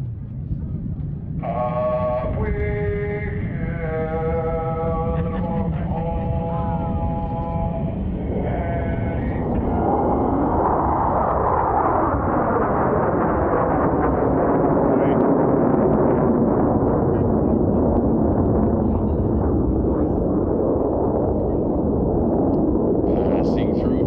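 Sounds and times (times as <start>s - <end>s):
jets roaring past: 2.1s - 24.0s.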